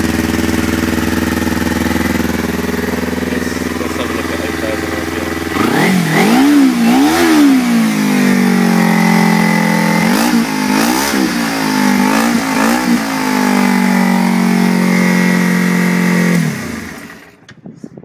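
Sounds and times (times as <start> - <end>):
motorcycle engine revving: 0.0 - 17.5.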